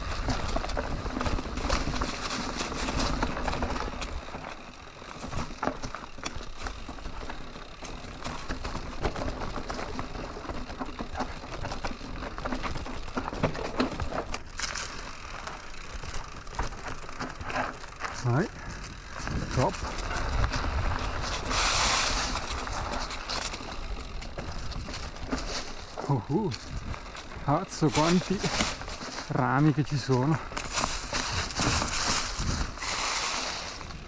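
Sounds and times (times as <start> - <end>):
bike rattling and knocking: 0.0 - 34.0
tyres crunching through leaves: 0.0 - 34.0.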